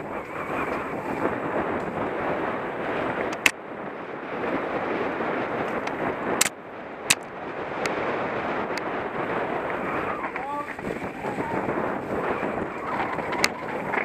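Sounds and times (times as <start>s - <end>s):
bike tyre and trail noise: 0.0s - 14.0s
wind rushing on microphone: 0.0s - 14.0s.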